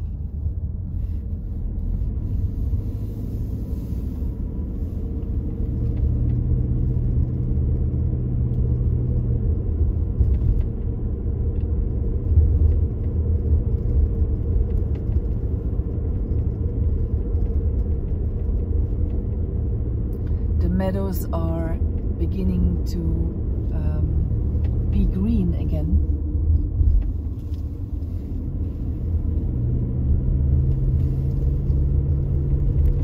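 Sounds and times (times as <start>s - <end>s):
engine and tyre rumble: 0.0s - 33.0s
low engine hum: 0.0s - 33.0s.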